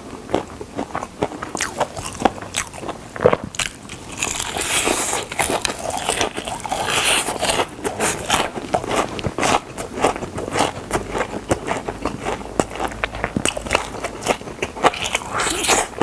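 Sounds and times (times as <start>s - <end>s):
crunching fried chicken: 0.0s - 16.0s.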